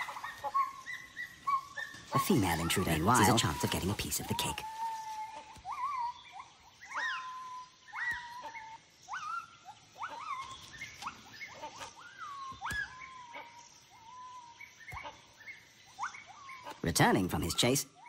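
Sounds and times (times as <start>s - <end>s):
gibbons whooping: 0.0s - 15.3s.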